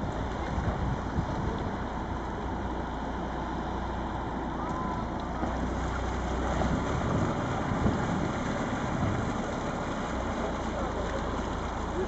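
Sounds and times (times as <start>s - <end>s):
boat engine running under load: 0.0s - 12.0s.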